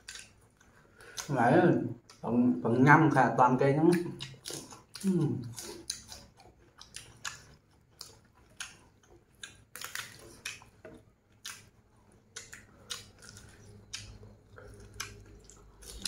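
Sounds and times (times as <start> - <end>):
people chewing and biting: 0.0 - 1.4, 3.9 - 16.0.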